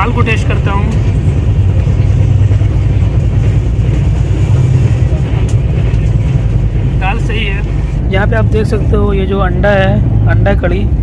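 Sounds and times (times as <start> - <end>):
train coach rumble and hum: 0.0 - 11.0.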